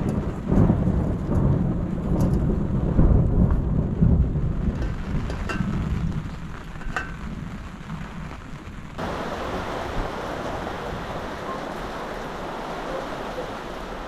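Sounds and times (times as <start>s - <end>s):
low thunder rumble: 0.0s - 14.0s
rain hissing: 0.0s - 14.0s.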